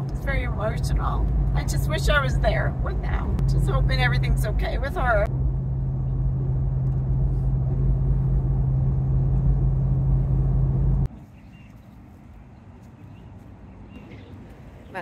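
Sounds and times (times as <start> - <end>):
engine and tyre rumble: 0.0 - 15.0
open-air background: 0.0 - 15.0.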